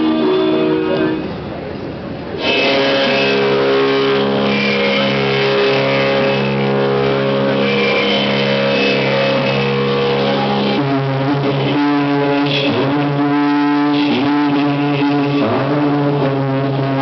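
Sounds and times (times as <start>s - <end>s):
droning instrumental chord: 0.0s - 1.4s, 2.4s - 17.0s.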